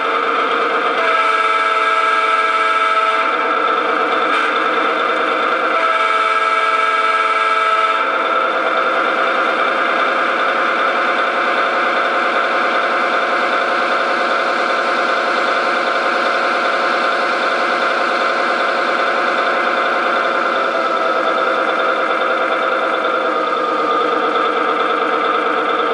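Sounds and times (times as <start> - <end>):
diesel engine sound from small speaker: 0.0 - 25.9.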